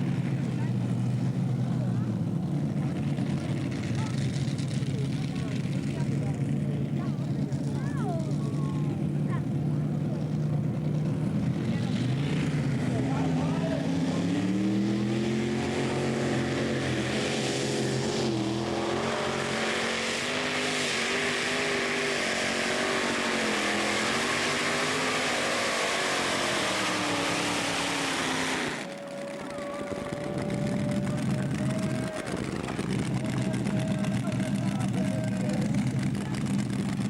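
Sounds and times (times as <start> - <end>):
engine running hard under load: 0.0 - 37.0.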